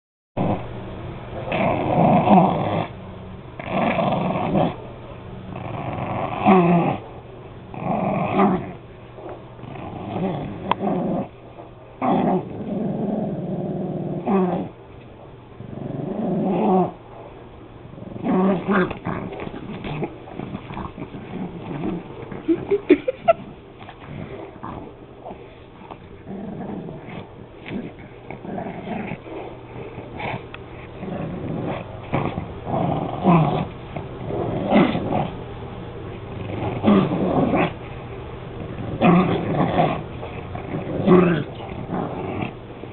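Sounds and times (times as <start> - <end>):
dog growling in play: 0.4 - 11.4, 12.0 - 14.8, 15.6 - 42.9.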